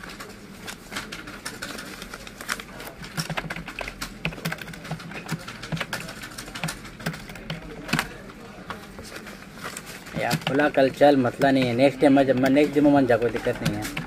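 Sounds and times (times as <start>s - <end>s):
computer keyboard keys clicking: 0.7s - 8.8s, 10.2s - 14.0s.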